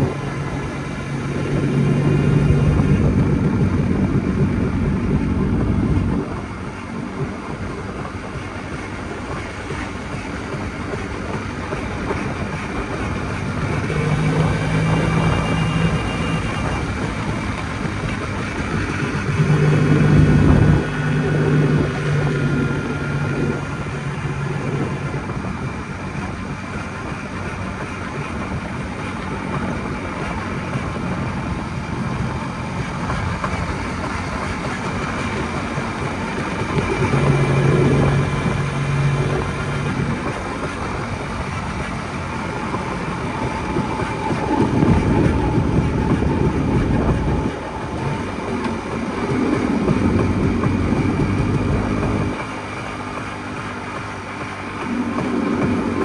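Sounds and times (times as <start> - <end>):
road and wind noise: 0.0 - 56.0
two-stroke motorcycle engine: 0.0 - 56.0.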